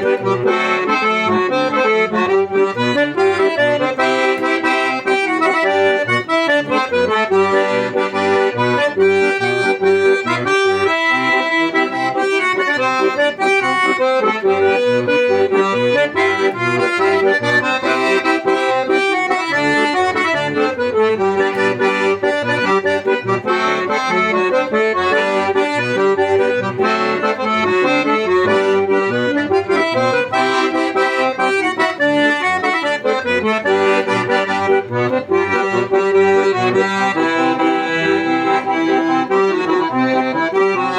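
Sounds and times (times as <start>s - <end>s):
accordion playing a tune: 0.0s - 40.9s.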